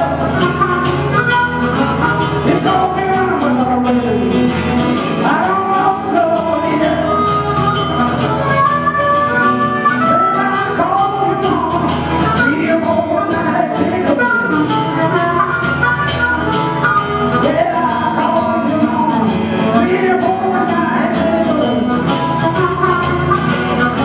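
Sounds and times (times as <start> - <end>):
acoustic guitar strumming: 0.0 - 24.0
harmonica melody with bent notes: 0.0 - 24.0.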